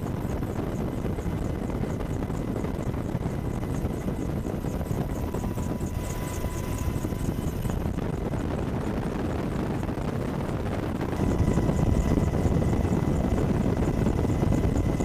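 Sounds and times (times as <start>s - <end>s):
helicopter rotor and turbine rumble: 0.0s - 15.0s.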